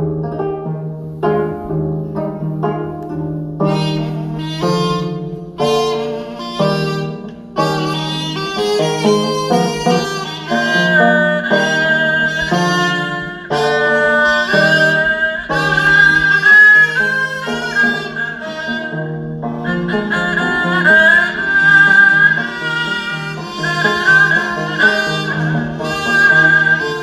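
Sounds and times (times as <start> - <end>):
live instrumental ensemble: 0.0 - 27.0.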